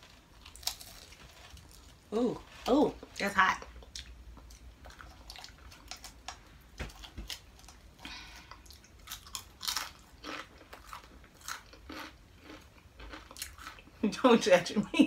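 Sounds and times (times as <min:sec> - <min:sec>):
person chewing crispy food: 0:00.0 - 0:14.0.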